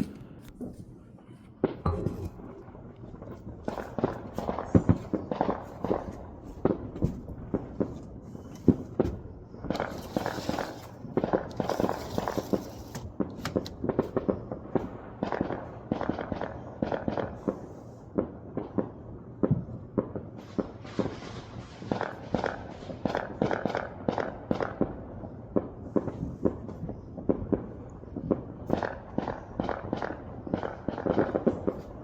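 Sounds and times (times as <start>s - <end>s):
fireworks popping and crackling: 0.0s - 32.0s.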